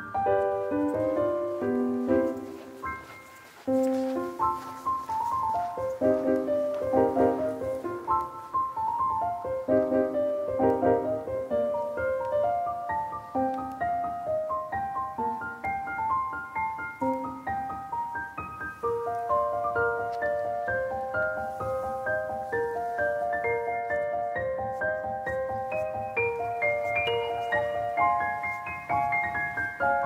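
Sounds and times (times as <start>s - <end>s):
gentle piano melody: 0.0s - 30.0s.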